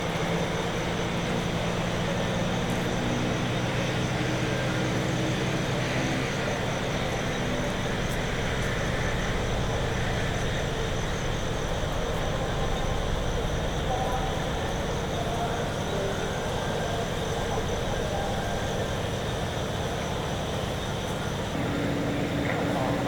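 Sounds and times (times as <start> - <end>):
faint high steady whine: 0.0 - 23.0
low engine hum: 0.0 - 23.0
steady traffic noise: 0.0 - 23.0.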